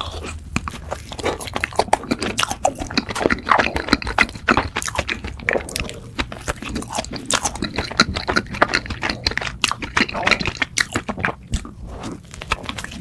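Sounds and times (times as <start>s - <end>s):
chewing soft doughnut: 0.0s - 13.0s.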